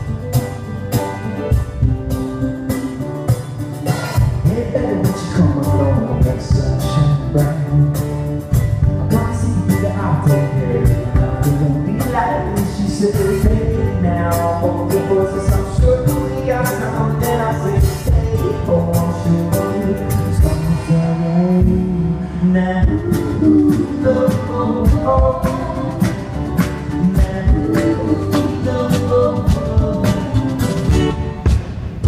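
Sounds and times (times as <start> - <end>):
steady drum beat: 0.0 - 21.0, 22.8 - 32.0
acoustic guitar: 0.0 - 32.0
keyboard: 0.0 - 32.0
person singing: 3.8 - 31.4.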